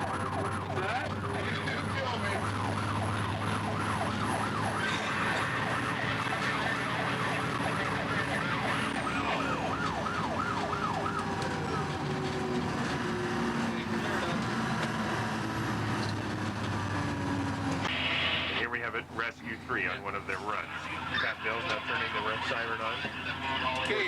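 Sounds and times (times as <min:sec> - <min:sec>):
fire truck siren yelp: 0:00.0 - 0:18.6, 0:20.4 - 0:24.0
low engine hum: 0:00.0 - 0:24.0.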